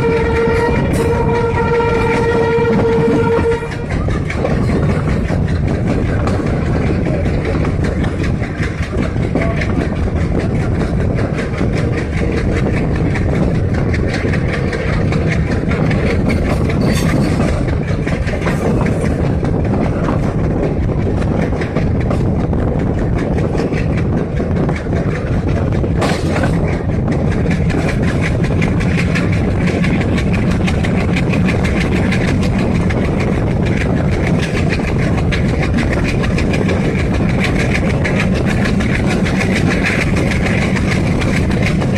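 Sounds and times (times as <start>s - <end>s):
diesel train engine drone: 0.0s - 41.9s
train wheels on rails: 0.0s - 41.9s.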